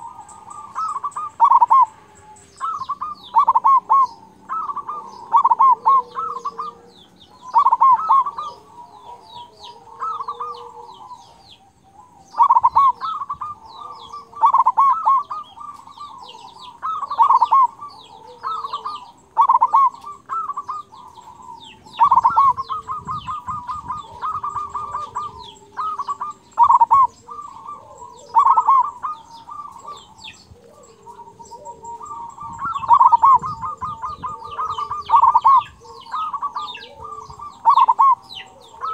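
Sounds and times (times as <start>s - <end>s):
dove cooing: 0.0s - 38.9s
faint high chirping: 0.0s - 38.9s.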